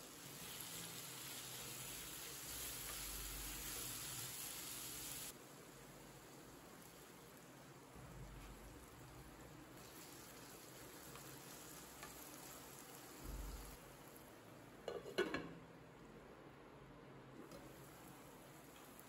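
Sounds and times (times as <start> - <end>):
vegetables sizzling in a pan: 0.0 - 15.2, 17.4 - 19.0.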